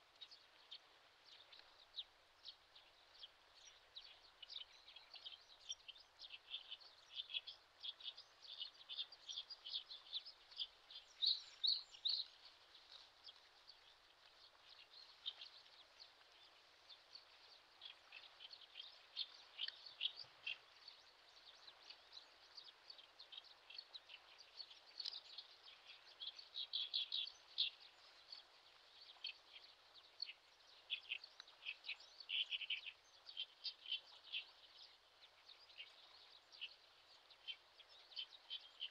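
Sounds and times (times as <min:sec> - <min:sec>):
faint steady hiss: 0:00.0 - 0:38.9
small birds chirping: 0:00.0 - 0:38.9.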